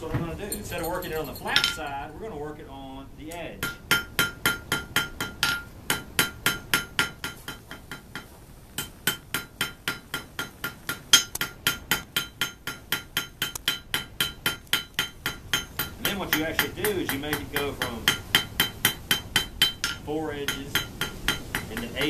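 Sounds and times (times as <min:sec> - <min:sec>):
hammer striking rod on anvil: 0:03.6 - 0:22.0.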